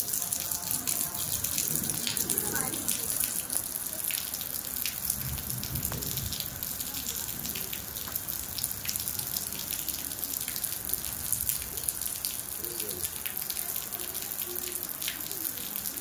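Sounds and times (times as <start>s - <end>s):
steady rain falling: 0.0s - 16.0s
ticks of rain drops: 0.0s - 16.0s.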